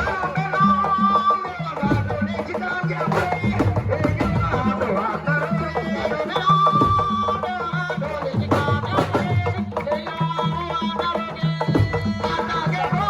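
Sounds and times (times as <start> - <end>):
music with drums and bass: 1.7 - 13.0.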